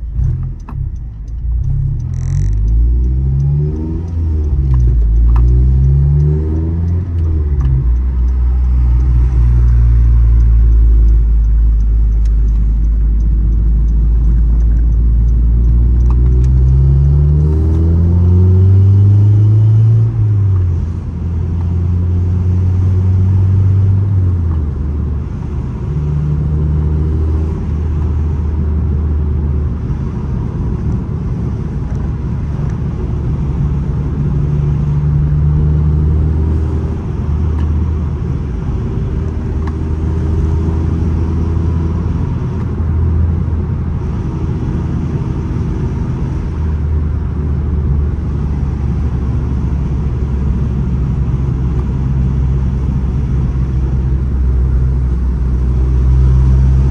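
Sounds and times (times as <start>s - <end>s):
car engine drone: 0.0s - 56.9s.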